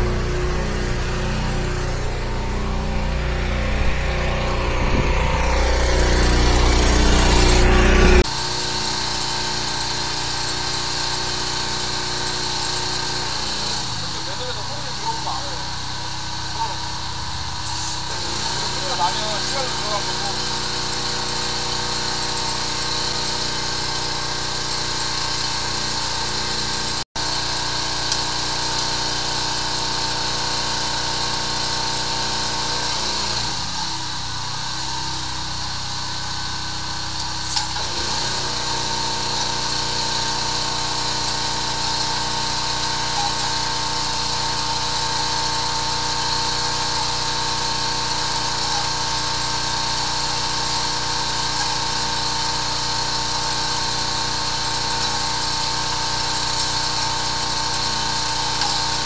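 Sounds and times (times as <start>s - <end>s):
pump engine humming: 0.0s - 59.0s.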